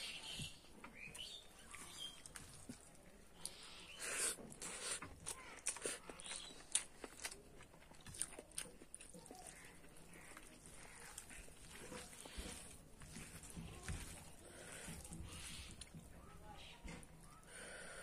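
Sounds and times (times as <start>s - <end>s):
person chewing and lip-smacking: 1.2s - 16.0s.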